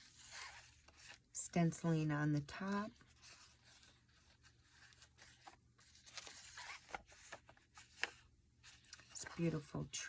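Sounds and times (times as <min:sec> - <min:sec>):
paper pages rustling: 0:00.0 - 0:09.9.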